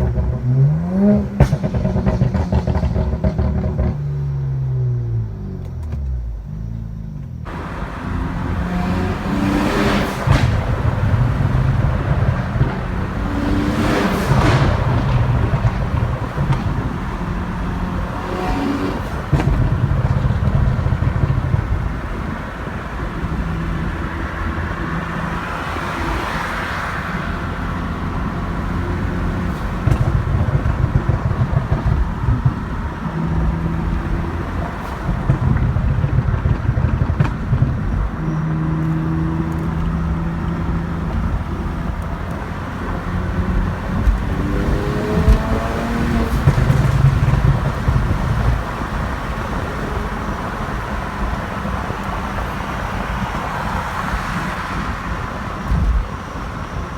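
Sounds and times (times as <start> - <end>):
car engine and exhaust accelerating: 0.0 - 56.9.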